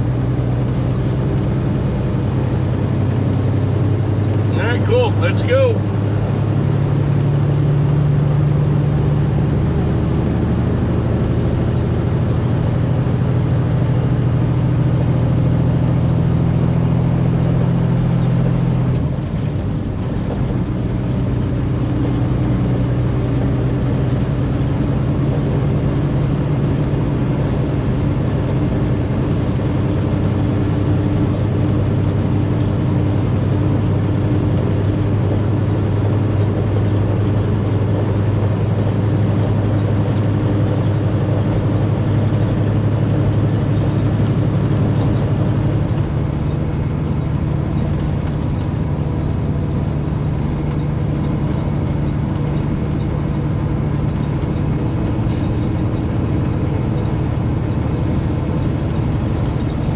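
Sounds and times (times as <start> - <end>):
truck diesel engine and road noise: 0.0 - 59.9.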